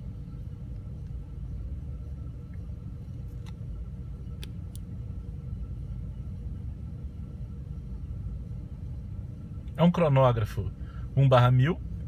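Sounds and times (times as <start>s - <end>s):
car engine idling inside cabin: 0.0s - 12.0s.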